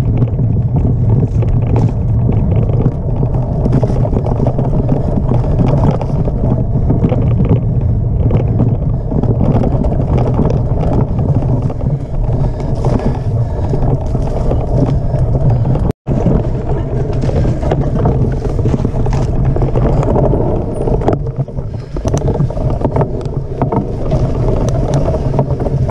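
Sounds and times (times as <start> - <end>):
bike rattling over bumps: 0.0 - 25.9
tyres rolling over dirt: 0.0 - 25.9
wind buffeting microphone: 0.0 - 25.9.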